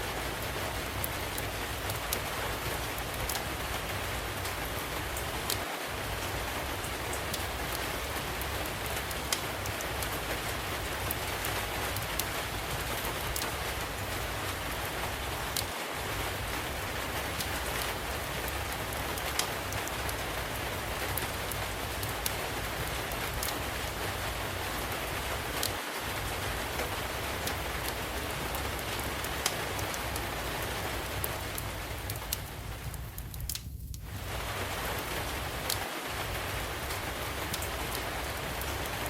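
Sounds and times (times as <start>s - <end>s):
steady rain: 0.0s - 39.0s
log fire popping and crackling: 0.1s - 39.0s.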